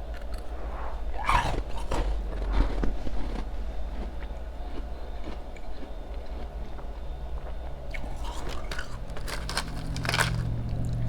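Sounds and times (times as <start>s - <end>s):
chewing ice crunches: 1.2s - 11.0s.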